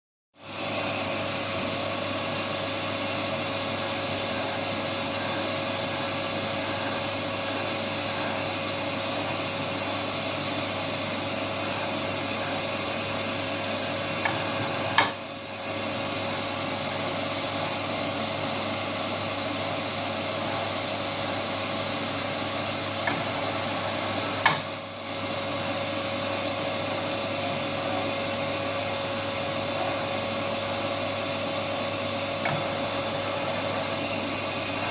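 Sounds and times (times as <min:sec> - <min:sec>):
cutting plotter whining and humming: 0:00.4 - 0:34.9.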